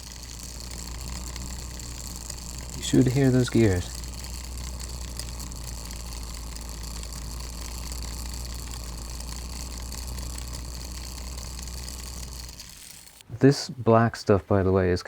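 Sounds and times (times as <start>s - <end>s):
clockwork gears whirring: 0.0s - 13.3s.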